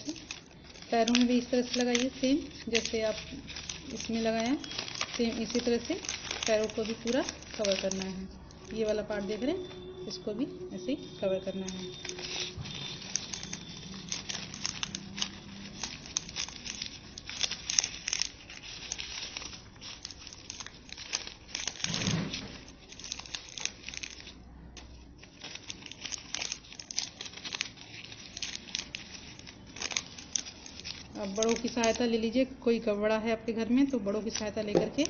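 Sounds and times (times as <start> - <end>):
newspaper crinkling and rustling: 0.0 - 35.0.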